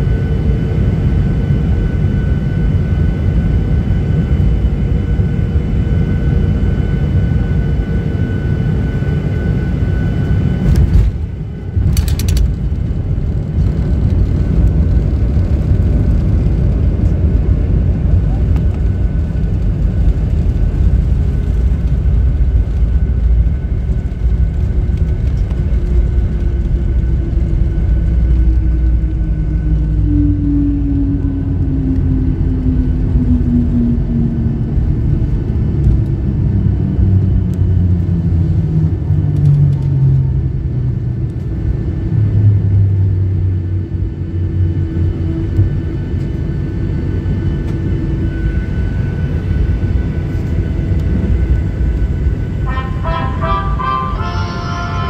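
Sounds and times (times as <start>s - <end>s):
jet engines winding down: 0.0s - 55.0s
low rumble from runway: 0.0s - 55.0s.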